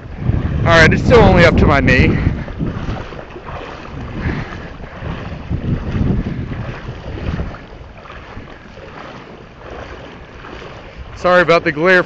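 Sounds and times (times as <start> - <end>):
floodwater sloshing around legs: 0.0 - 12.0
wind buffeting microphone: 0.0 - 12.0.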